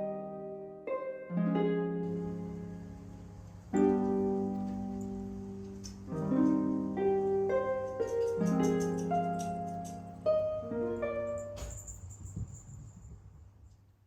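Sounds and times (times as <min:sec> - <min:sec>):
soft piano chords: 0:00.0 - 0:13.6.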